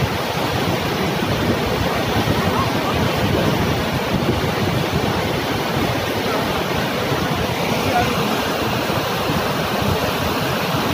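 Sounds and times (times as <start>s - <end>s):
floodwater rushing down a river: 0.0s - 10.9s.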